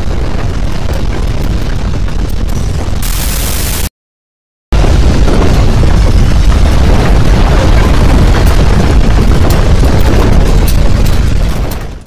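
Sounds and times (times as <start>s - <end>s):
deep landslide rumble with crackling: 0.0s - 3.9s, 4.8s - 12.0s.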